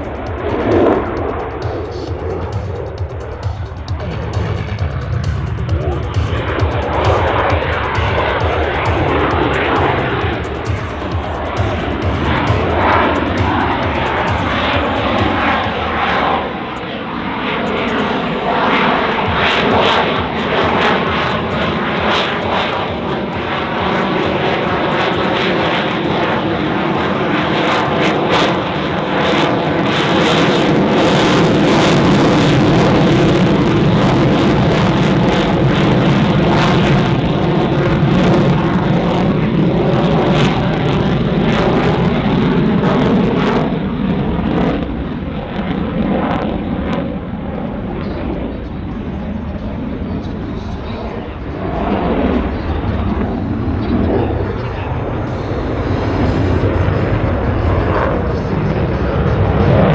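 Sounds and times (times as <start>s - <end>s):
loud jet noise with crackle: 0.0s - 59.9s.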